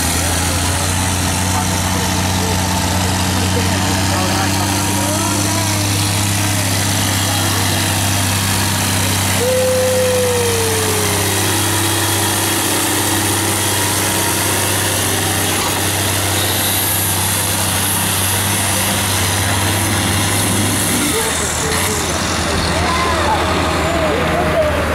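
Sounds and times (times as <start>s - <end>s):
tractor engine droning: 0.0s - 24.9s.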